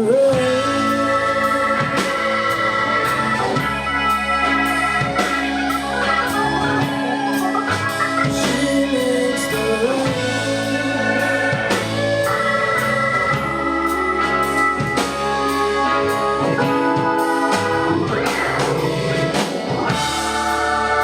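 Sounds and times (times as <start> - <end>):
melodic lead line: 0.0 - 21.0
rock band playing: 0.0 - 21.0
steady drum beat: 0.0 - 21.0.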